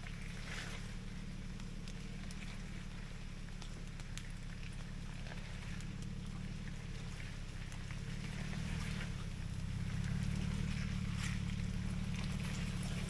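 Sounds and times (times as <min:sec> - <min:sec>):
car engine running at low revs: 0:00.0 - 0:13.0
tyres crunching on rough trail: 0:00.0 - 0:13.0.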